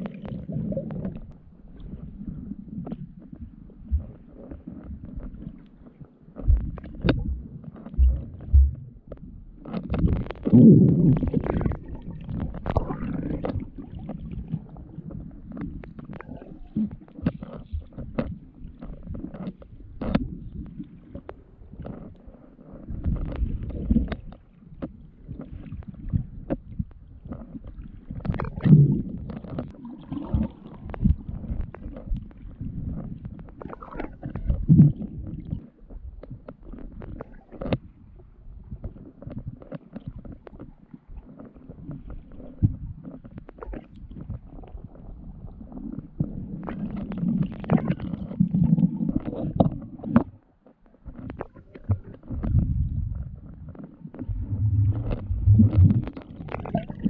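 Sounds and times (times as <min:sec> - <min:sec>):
underwater knocks and clicks: 0:00.0 - 0:57.0
underwater water movement rumble: 0:00.0 - 0:57.0.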